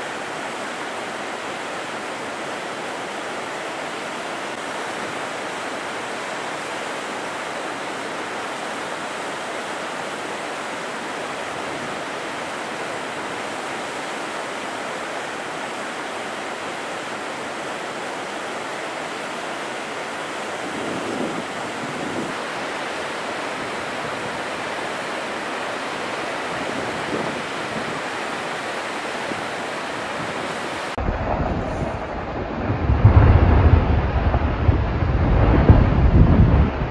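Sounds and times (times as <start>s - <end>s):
river rushing: 0.0s - 36.9s.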